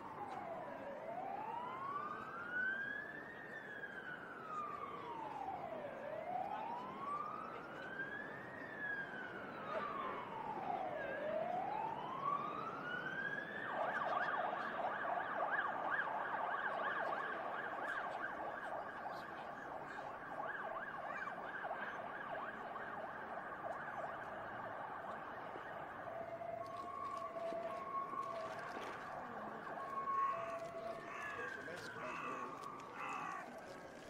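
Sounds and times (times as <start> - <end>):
siren wailing and yelping: 6.2 - 33.7.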